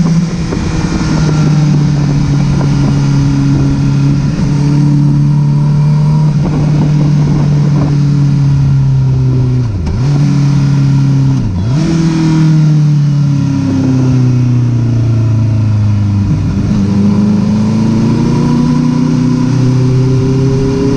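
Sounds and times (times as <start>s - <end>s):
motorcycle engine running: 0.0s - 20.9s
wind noise: 0.0s - 20.9s.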